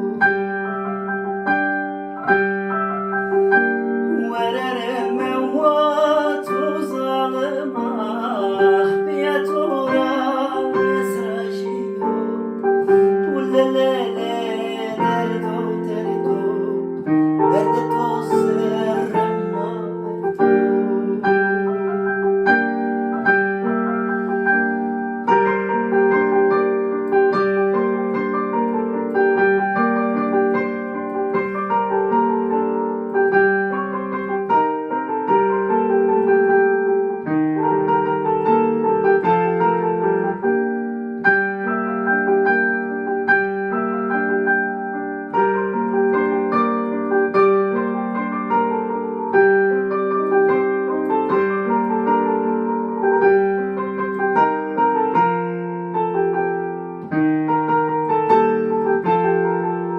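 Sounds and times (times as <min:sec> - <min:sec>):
piano-like keyboard music: 0:00.0 - 0:59.9.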